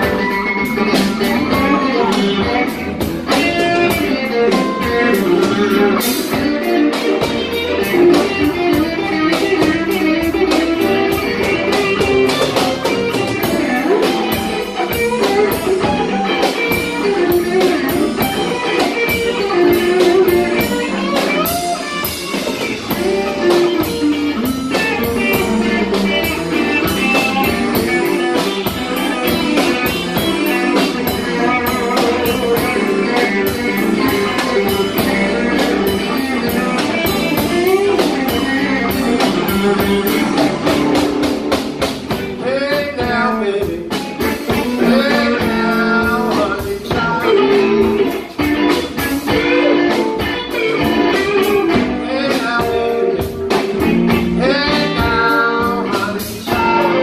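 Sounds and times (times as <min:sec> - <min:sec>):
blues band playing: 0:00.0 - 0:57.0
drum beat: 0:00.0 - 0:57.0
electric guitar: 0:00.0 - 0:57.0.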